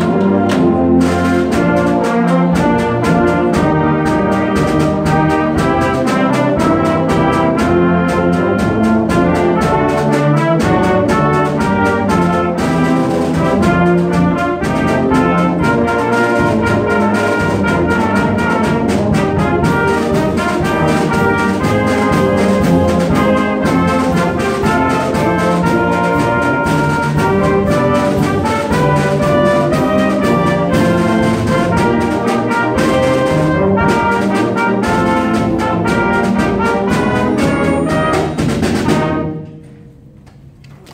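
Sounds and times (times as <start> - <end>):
wind ensemble playing: 0.0 - 40.1.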